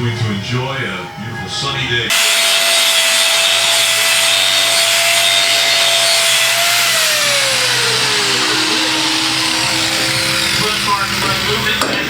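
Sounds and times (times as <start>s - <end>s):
loud track noise: 0.1s - 12.0s
racing engines at high revs: 2.1s - 12.0s.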